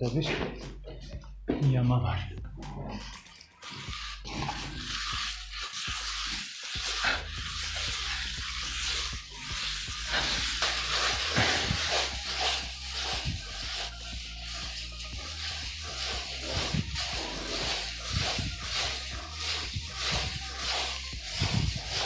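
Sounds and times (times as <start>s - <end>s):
hand float scraping over mortar: 2.7s - 22.0s.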